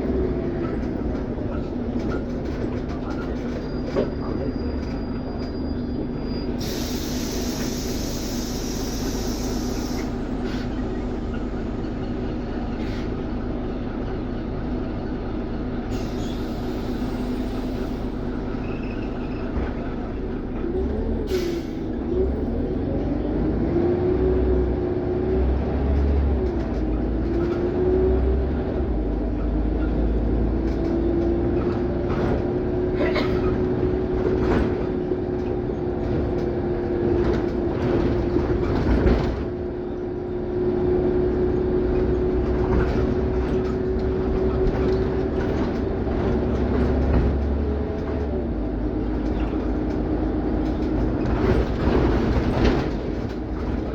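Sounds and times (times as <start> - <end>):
bus drivetrain whine: 0.0 - 53.9.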